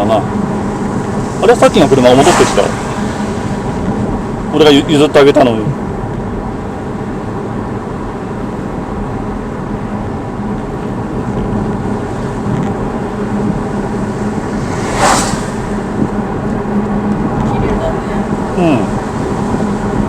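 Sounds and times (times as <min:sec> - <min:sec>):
car interior engine and tyre hum: 0:00.0 - 0:20.0.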